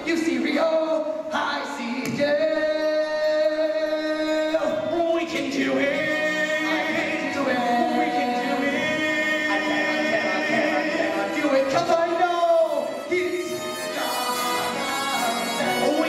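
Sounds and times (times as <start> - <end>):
show tune accompaniment music: 2.0 - 16.0.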